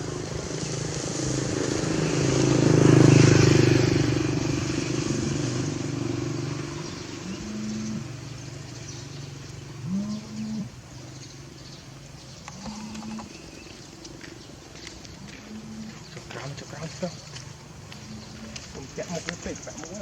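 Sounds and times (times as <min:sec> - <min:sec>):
vehicle engine passing by: 0:00.0 - 0:20.0.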